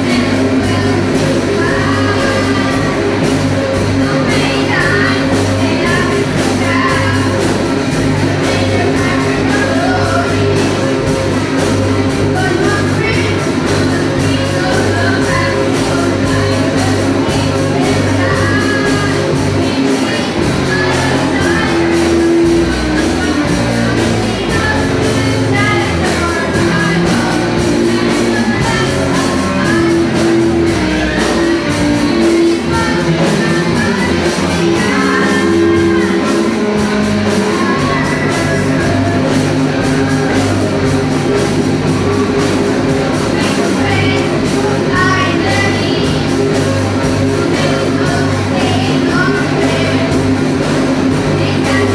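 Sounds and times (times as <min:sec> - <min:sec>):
drum kit: 0:00.0 - 0:51.9
electric bass: 0:00.0 - 0:51.9
electric guitars: 0:00.0 - 0:51.9.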